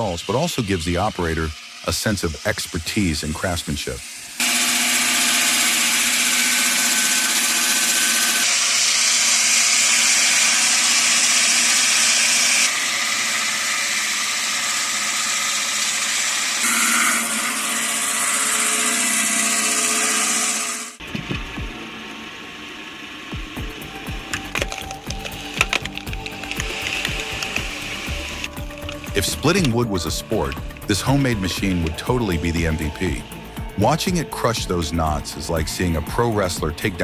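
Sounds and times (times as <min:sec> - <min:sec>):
wood-processing machine whine and grinding: 0:00.0 - 0:21.0, 0:21.8 - 0:37.0.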